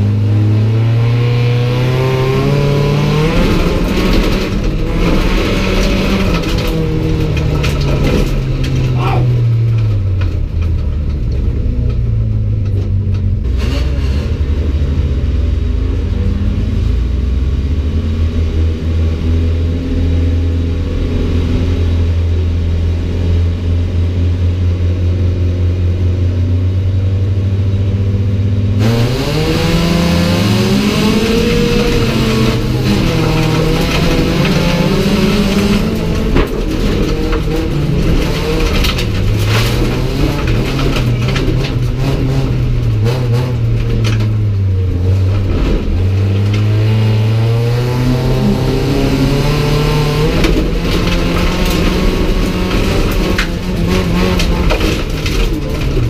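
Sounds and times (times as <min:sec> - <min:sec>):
race car engine revving: 0:00.0 - 0:26.0, 0:27.6 - 0:56.0.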